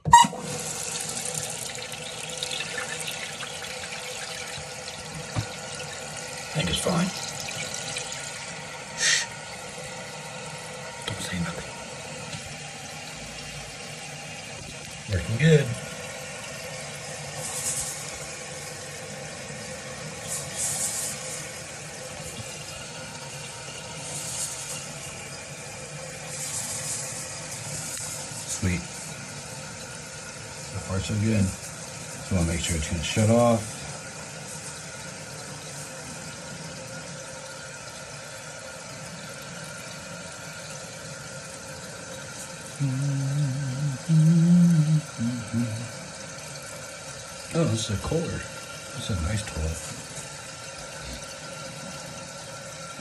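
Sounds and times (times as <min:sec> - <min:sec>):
toilet tank refilling with water: 0:00.0 - 0:53.0.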